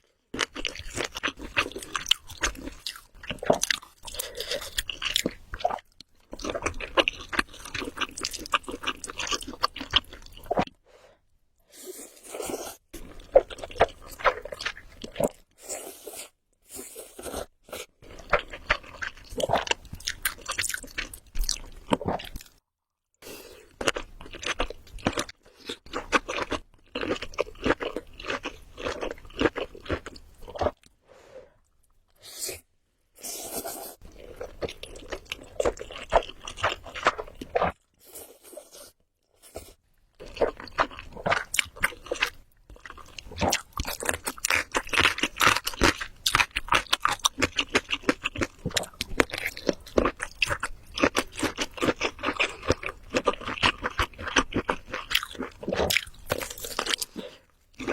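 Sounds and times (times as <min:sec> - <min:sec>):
person chewing with crunches: 0:00.3 - 0:10.8, 0:11.8 - 0:22.6, 0:23.3 - 0:31.0, 0:33.2 - 0:57.9.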